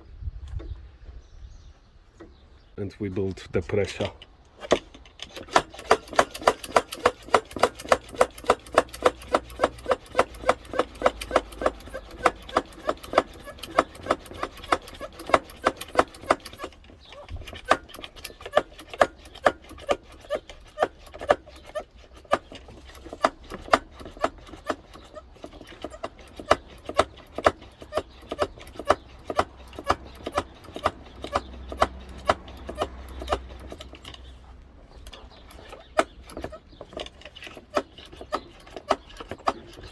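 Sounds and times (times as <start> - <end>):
pump clicking rhythmically: 4.4 - 39.9.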